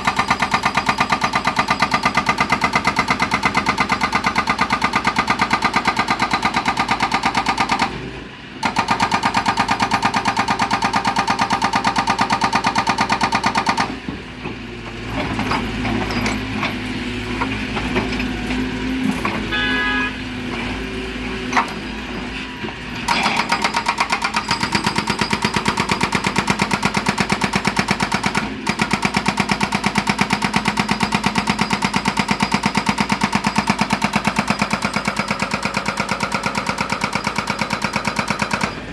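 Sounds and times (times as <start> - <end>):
hydraulic breaker hammer pounding stone: 0.0 - 16.8, 23.0 - 38.9
excavator engine and hydraulics: 0.0 - 38.9.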